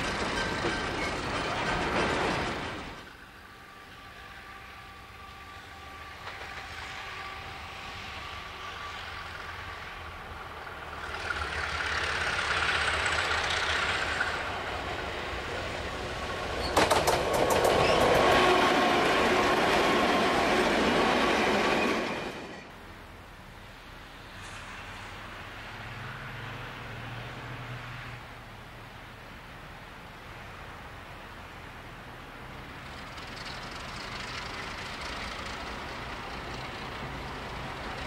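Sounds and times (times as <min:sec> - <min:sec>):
diesel locomotive running: 0:00.0 - 0:25.9, 0:32.2 - 0:38.0
freight train rolling past: 0:00.0 - 0:28.3, 0:30.4 - 0:38.0.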